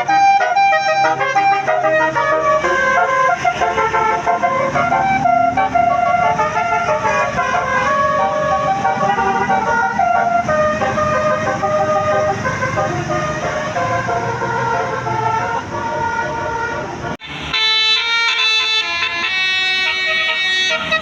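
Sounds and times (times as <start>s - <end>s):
bus horn playing a tune: 0.0s - 21.0s.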